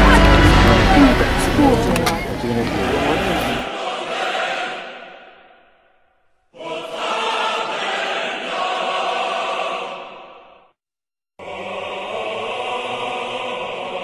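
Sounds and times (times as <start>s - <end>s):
voices chanting in unison: 0.0s - 5.8s, 6.5s - 10.8s, 11.4s - 14.0s.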